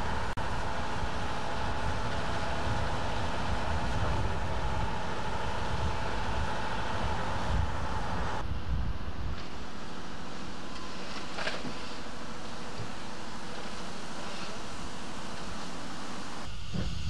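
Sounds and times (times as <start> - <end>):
steam locomotive hiss and rumble: 0.0 - 17.0.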